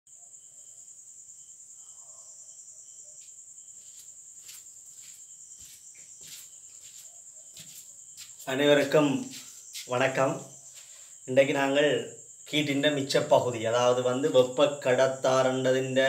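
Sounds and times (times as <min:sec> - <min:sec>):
insects trilling: 0:00.1 - 0:16.0.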